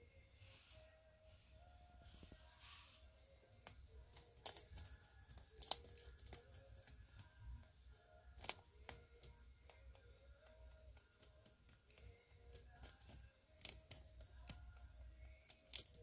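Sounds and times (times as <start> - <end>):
rabbit nibbling: 0.0 - 16.0.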